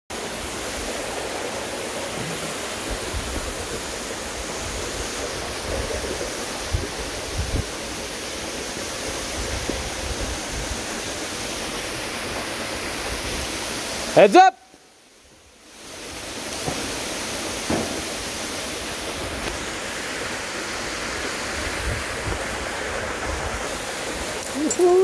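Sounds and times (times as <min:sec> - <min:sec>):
waterfall rushing over rock: 0:00.1 - 0:25.0.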